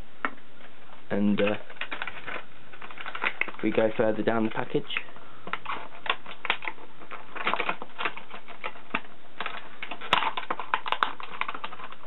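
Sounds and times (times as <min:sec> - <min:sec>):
packaging clicking and crackling: 0:01.4 - 0:12.0.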